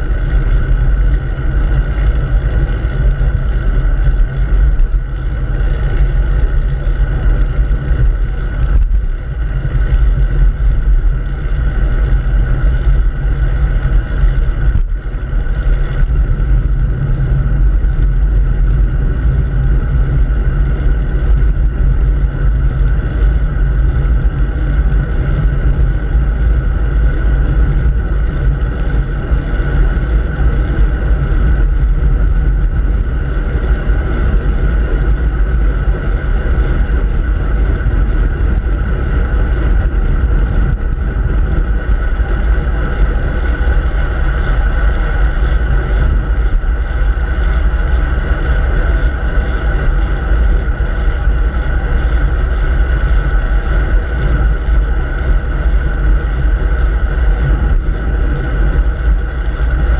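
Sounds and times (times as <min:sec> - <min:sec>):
bicycle tyre and road noise: 0:00.0 - 0:59.9
wind rush over microphone: 0:00.0 - 0:59.9.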